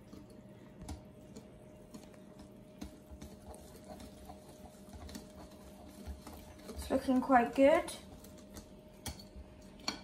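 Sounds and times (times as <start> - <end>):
whisk wires clicking on bowl: 0.0 - 10.0.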